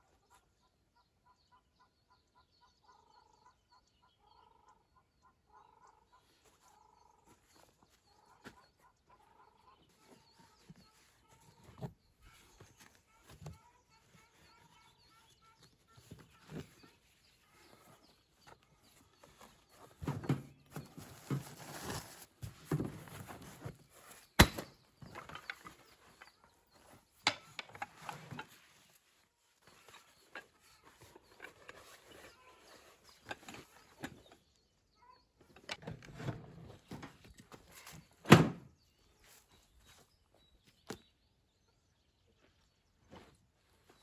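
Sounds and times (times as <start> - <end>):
rustling and handling noises: 6.2 - 41.6, 42.3 - 44.0.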